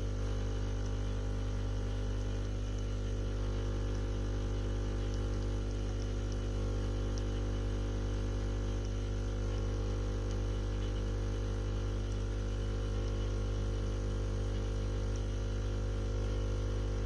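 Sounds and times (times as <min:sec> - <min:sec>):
espresso machine pump humming: 0:00.0 - 0:17.0.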